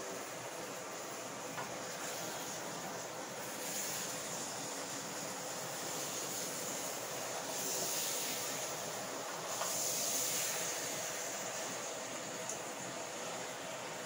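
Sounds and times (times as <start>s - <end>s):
chicken sizzling in a pot: 0.0s - 14.0s.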